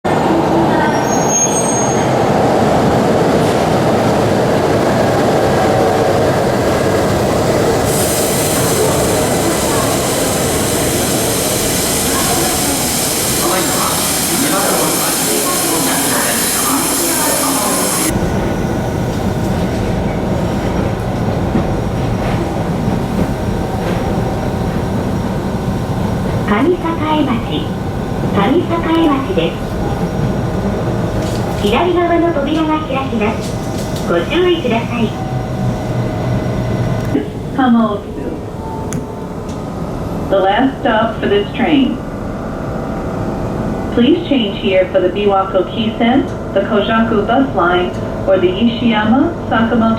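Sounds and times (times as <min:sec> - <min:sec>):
train running on rails: 0:00.1 - 0:49.9.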